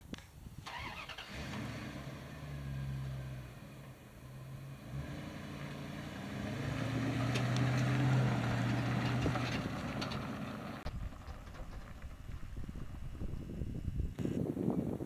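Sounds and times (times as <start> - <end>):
truck engine running: 0.7 - 14.7.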